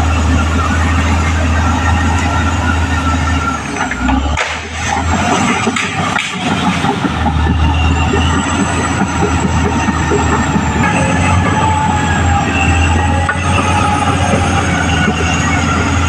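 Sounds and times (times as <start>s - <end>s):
dozer diesel engine running: 0.0s - 16.0s
steel tracks squealing and clattering: 0.0s - 16.0s.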